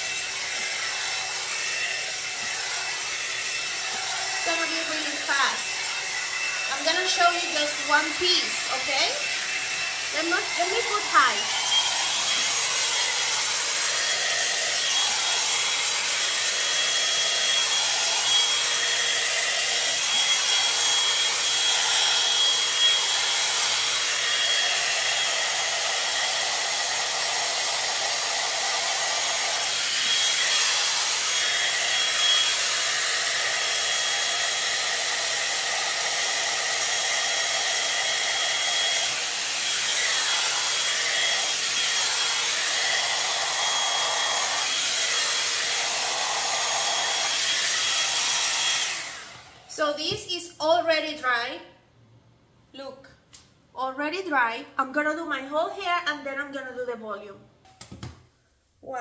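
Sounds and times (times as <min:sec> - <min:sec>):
hot air brush blowing: 0:00.0 - 0:49.9.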